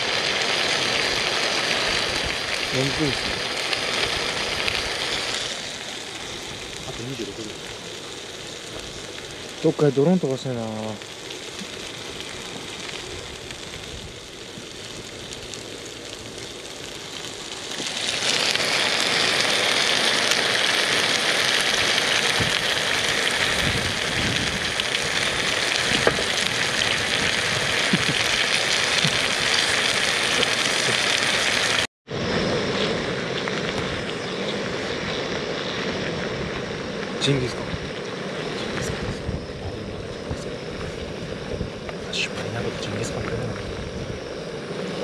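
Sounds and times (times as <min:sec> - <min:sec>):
food sizzling in a pan: 0:00.0 - 0:45.0
outdoor background noise: 0:00.0 - 0:45.0.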